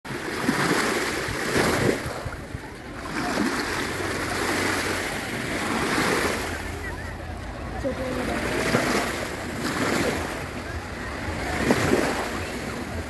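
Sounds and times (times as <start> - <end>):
surf washing onto beach: 0.1 - 13.0.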